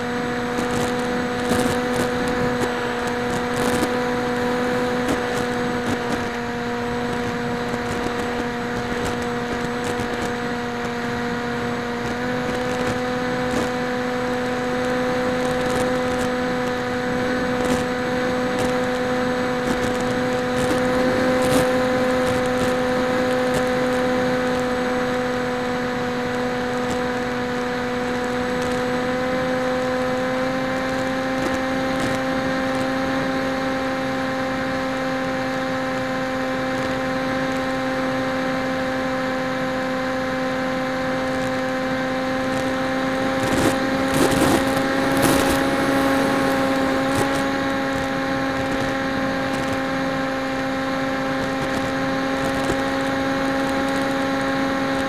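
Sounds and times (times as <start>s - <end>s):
electric motor high hum: 0.0s - 55.0s.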